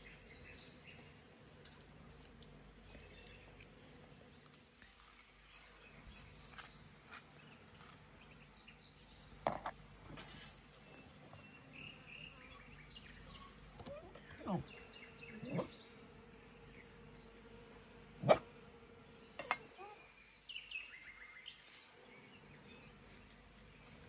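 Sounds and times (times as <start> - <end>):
birds: 0.0 - 1.8, 2.4 - 18.4, 19.0 - 24.0
faint insects: 0.0 - 24.0.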